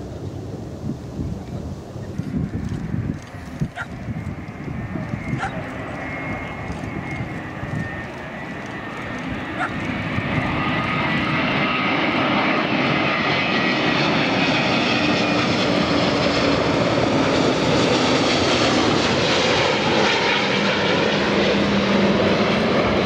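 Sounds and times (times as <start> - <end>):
faint engine whine: 0.0 - 23.0
jet engines roaring overhead: 0.0 - 23.0.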